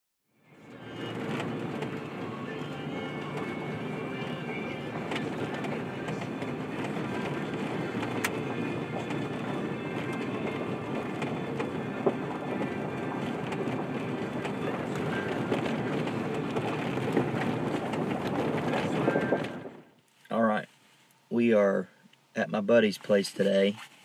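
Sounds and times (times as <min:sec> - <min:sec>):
tyres rumbling on gravel: 0:00.7 - 0:20.7.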